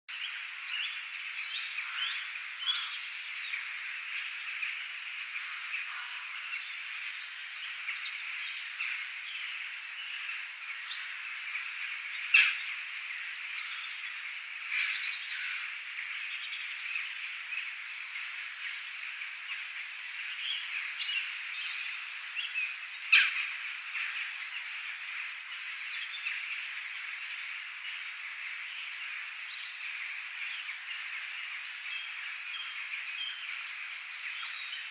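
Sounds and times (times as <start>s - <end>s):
birds chirping and calling: 0.8s - 34.9s.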